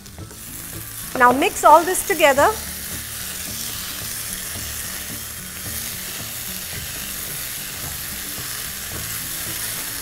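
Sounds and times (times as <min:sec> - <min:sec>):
vegetables sizzling in a wok: 0:00.0 - 0:10.0.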